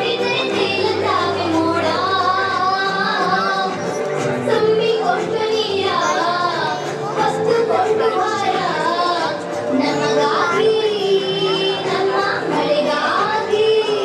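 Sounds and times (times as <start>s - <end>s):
high singing voice: 0.0s - 14.0s
instrumental accompaniment: 0.0s - 14.0s.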